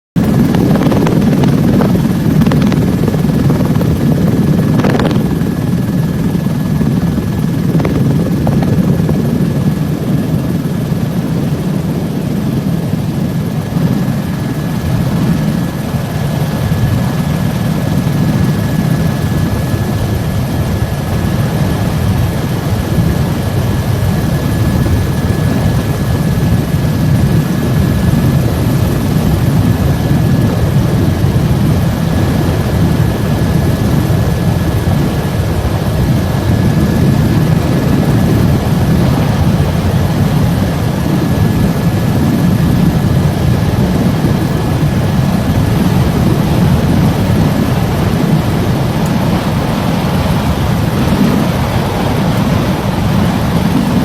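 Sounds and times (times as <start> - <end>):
helicopter rotor rumble: 0.1 - 54.0
helicopter high whine: 0.2 - 54.0.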